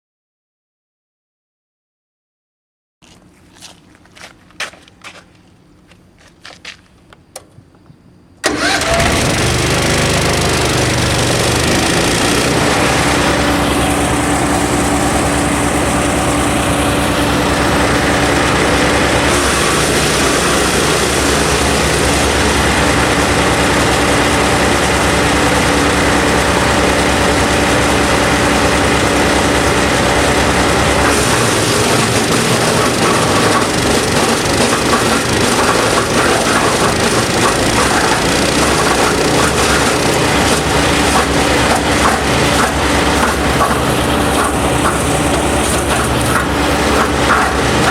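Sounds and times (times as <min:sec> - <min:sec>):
wood chipper running: 0:08.4 - 0:47.9.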